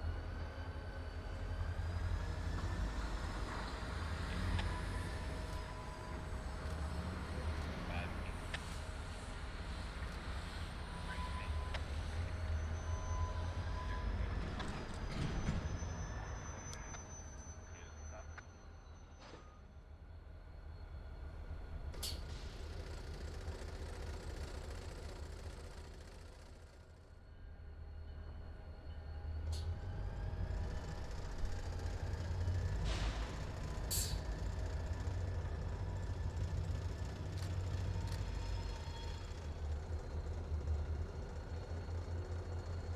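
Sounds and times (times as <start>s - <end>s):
freight train rumbling: 0.0s - 17.0s, 20.0s - 42.9s.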